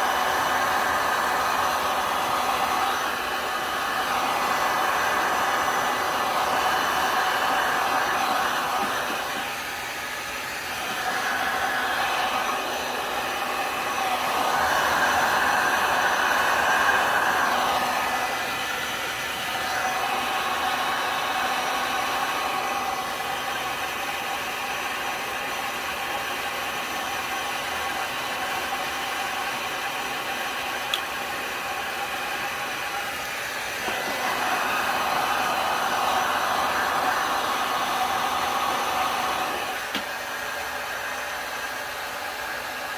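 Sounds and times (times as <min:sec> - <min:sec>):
electric air blower running: 0:00.0 - 0:42.9.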